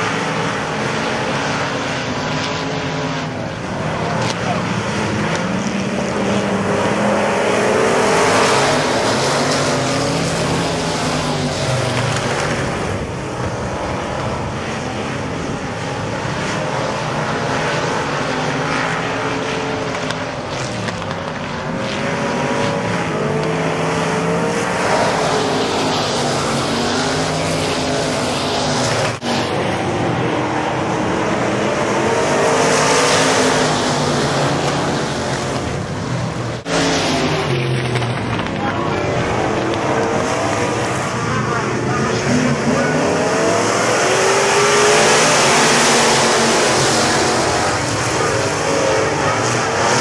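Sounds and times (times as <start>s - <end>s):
race car engines passing: 0.0s - 50.0s.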